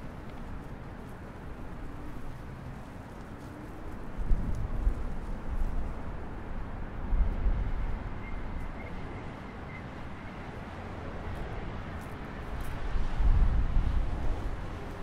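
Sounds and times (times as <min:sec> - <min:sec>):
passing road traffic hum: 0:00.0 - 0:15.0
wind buffeting microphone: 0:00.0 - 0:15.0.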